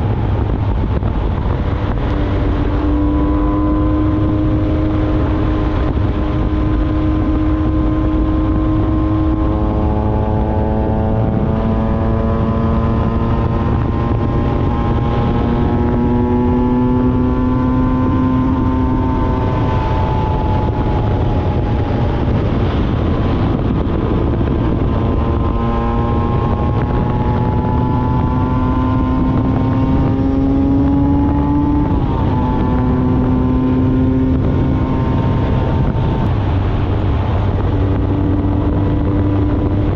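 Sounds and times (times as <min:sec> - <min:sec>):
wind over microphone: 0:00.0 - 0:39.9.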